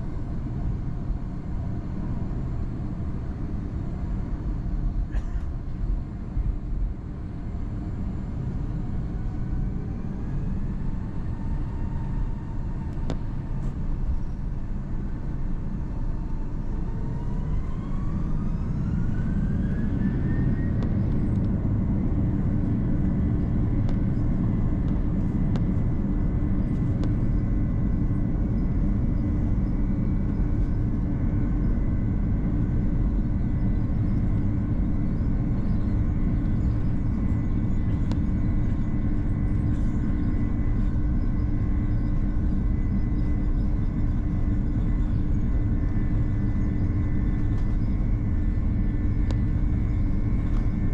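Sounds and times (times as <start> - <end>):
low cabin rumble: 0.0 - 50.9
jet engines whining: 0.1 - 50.9.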